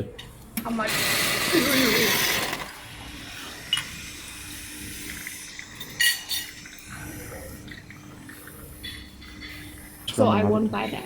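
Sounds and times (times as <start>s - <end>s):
coffee machine humming: 0.6s - 11.0s.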